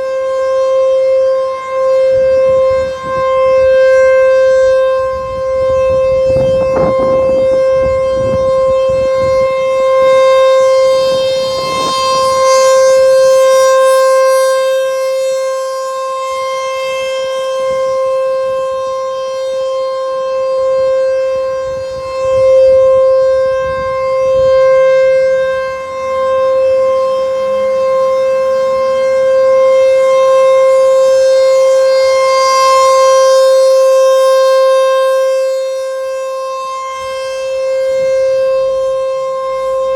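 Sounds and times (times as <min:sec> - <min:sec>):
rotating warning siren tone: 0:00.0 - 0:39.9.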